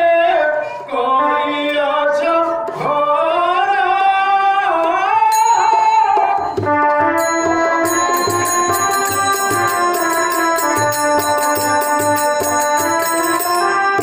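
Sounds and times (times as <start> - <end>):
instrumental accompaniment: 0.0 - 14.0
person singing: 0.0 - 14.0.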